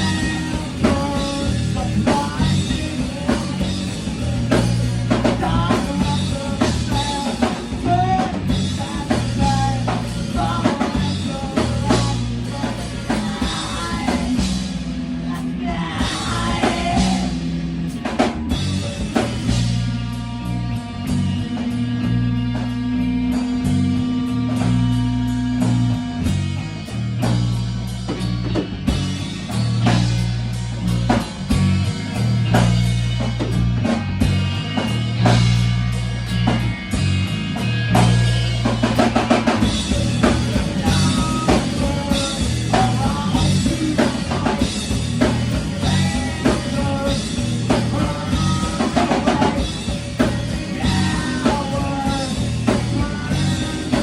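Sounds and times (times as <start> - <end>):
bass notes: 0.0 - 54.0
drum kit beating: 0.0 - 54.0
guitar: 0.0 - 54.0.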